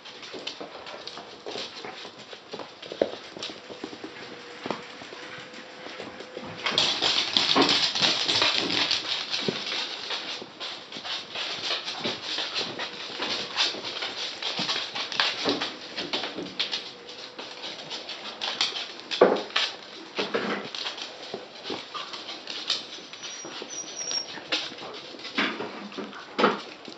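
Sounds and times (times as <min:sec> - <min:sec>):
puppy claws clicking on wood: 0:00.0 - 0:04.4, 0:06.2 - 0:26.9.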